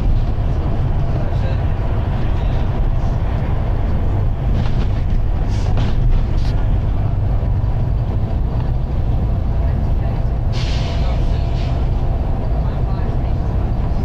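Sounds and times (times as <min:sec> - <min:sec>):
bus engine low rumble: 0:00.0 - 0:14.0.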